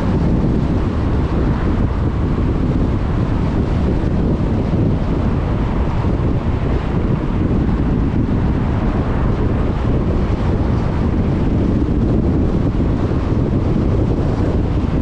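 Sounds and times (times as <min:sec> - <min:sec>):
car engine and road rumble: 0:00.0 - 0:15.0
wind buffeting microphone: 0:00.0 - 0:15.0.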